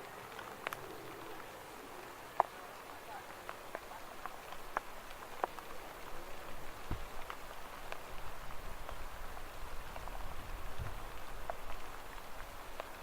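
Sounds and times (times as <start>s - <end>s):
rain drops pattering: 0.0s - 13.0s.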